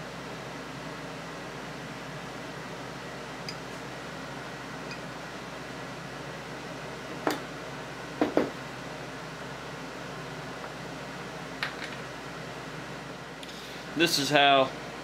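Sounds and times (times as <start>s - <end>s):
steady background hiss: 2.1s - 15.0s.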